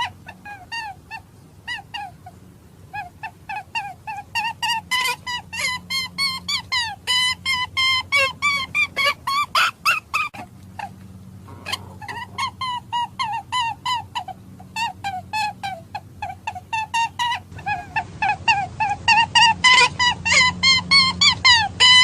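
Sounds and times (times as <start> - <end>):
squeaky animal calls: 2.9 - 22.0.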